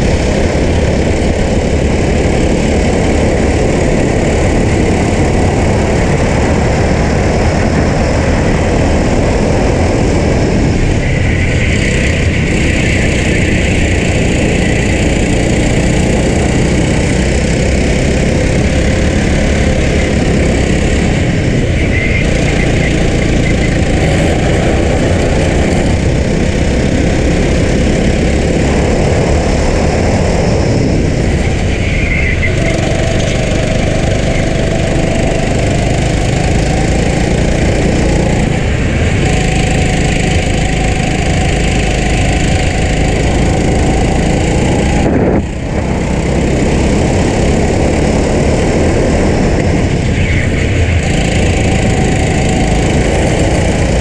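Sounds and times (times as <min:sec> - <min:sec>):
heavy wind noise: 0:00.0 - 0:54.0
kart engine running hard: 0:00.0 - 0:54.0.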